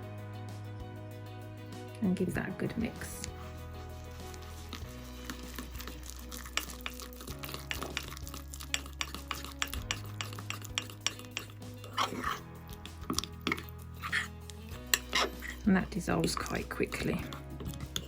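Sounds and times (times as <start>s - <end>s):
spoon stirring in a mug: 2.9s - 18.0s.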